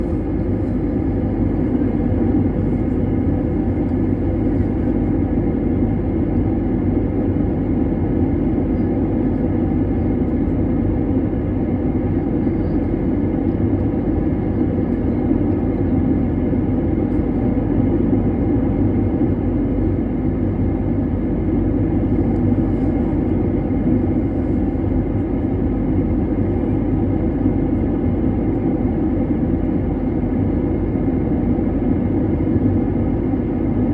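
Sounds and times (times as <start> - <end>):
airplane engine drone: 0.0 - 33.9.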